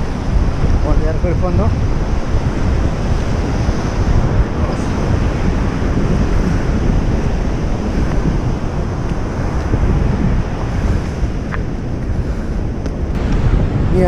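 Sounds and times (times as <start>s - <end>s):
surf on beach: 0.0s - 14.0s
wind buffeting microphone: 0.0s - 14.0s.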